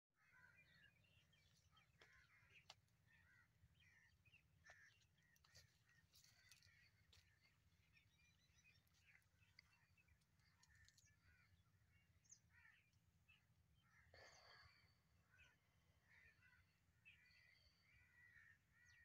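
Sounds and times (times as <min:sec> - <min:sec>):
bird calls and chirps: 0:00.2 - 0:19.0.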